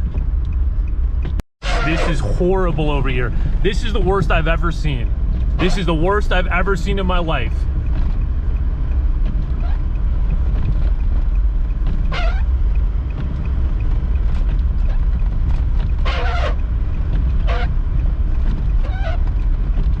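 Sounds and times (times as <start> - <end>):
car rumbling on snowy road: 0.0 - 20.0.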